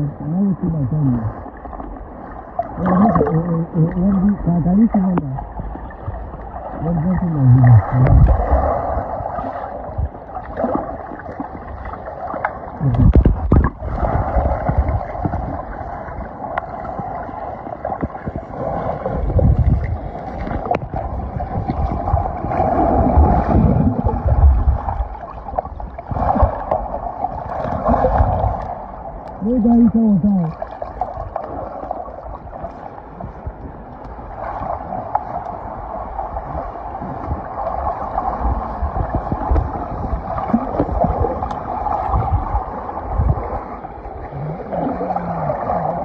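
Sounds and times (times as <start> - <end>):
underwater rushing and gurgling: 0.0 - 46.0.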